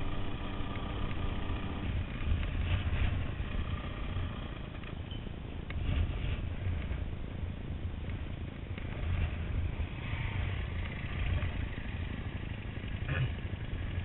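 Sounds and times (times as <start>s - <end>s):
motorcycle engine idling: 0.0s - 5.8s, 7.8s - 14.0s
trail bike riding past: 0.0s - 14.0s.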